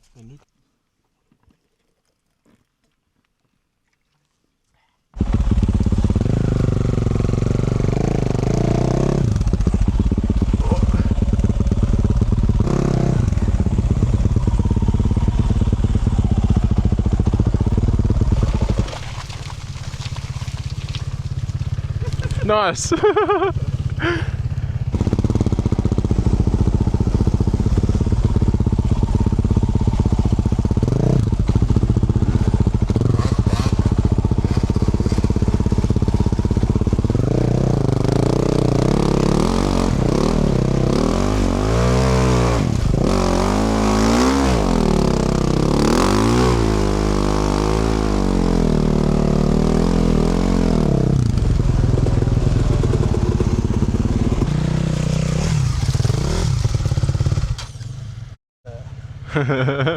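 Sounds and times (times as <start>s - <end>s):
dirt bike engine revving: 5.2s - 58.3s.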